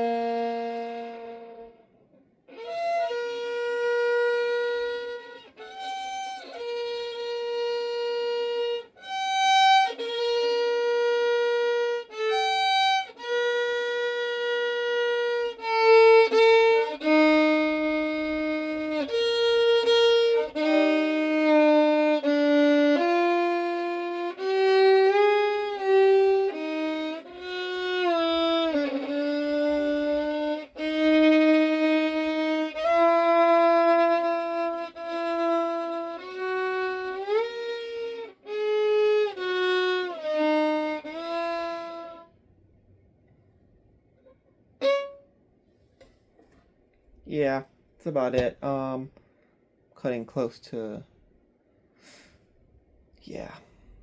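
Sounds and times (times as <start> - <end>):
solo violin melody: 0.0 - 42.6, 44.2 - 46.6.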